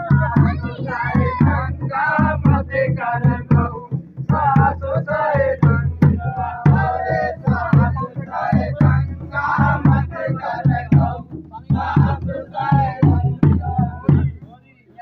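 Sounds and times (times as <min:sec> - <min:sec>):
men singing folk song: 0:00.0 - 0:14.4
drum beats: 0:00.0 - 0:15.0.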